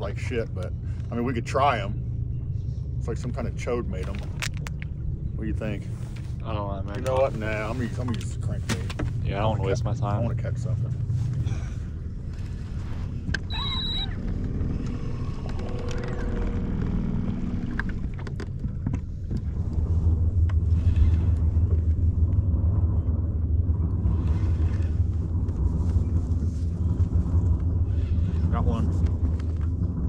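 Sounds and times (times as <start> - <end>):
outboard motors rumbling: 0.0 - 30.0.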